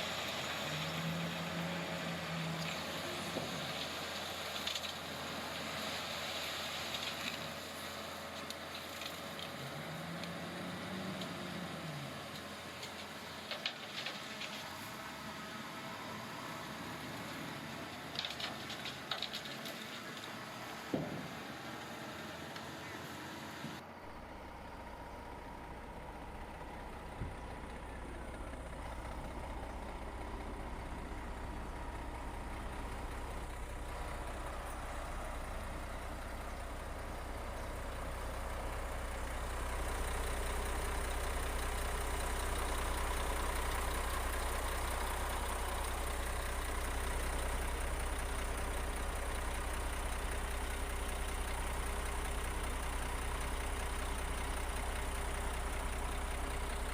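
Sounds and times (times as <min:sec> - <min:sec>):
heavy diesel engine rumbling: 0:00.0 - 0:56.9.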